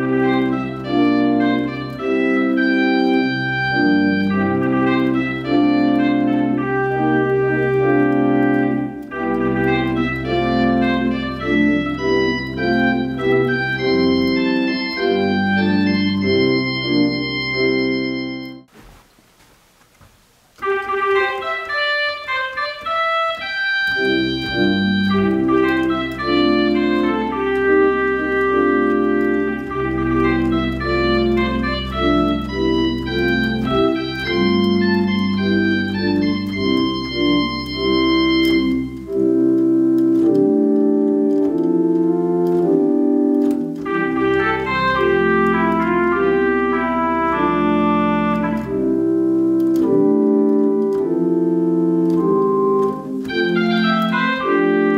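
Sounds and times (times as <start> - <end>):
deep organ pedal bass: 0.0 - 18.7, 20.9 - 54.9
organ chords and melody: 0.0 - 18.7, 20.5 - 54.9.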